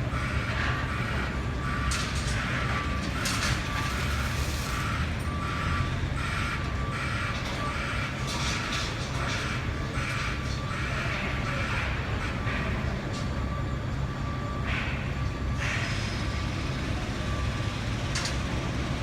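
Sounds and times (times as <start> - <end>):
low rumble of machinery: 0.0 - 19.0
reversing alarm beeping: 0.0 - 19.0.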